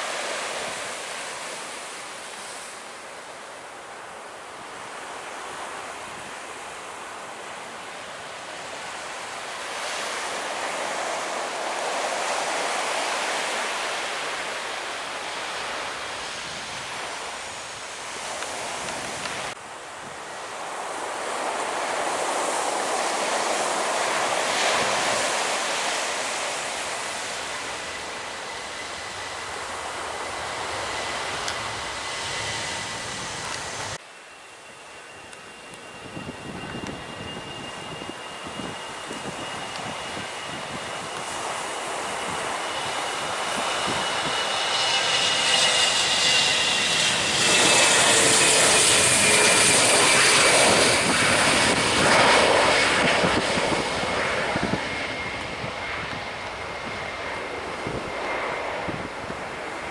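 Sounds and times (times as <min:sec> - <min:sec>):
faint high whine: 0:00.0 - 0:59.9
jet airliner engine noise: 0:00.0 - 0:59.9.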